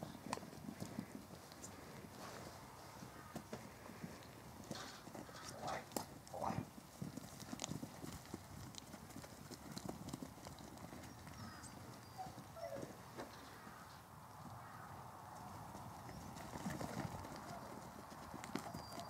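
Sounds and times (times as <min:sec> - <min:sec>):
sheep hooves on hard dirt: 0:00.0 - 0:19.0.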